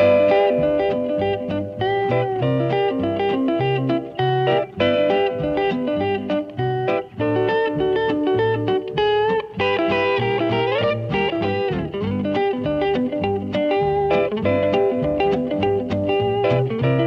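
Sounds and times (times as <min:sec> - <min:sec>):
picked guitar melody: 0:00.0 - 0:17.0.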